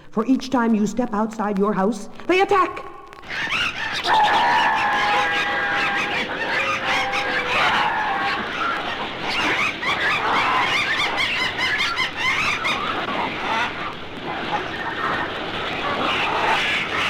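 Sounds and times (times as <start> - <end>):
birds squawking and shrieking: 3.2 - 17.0.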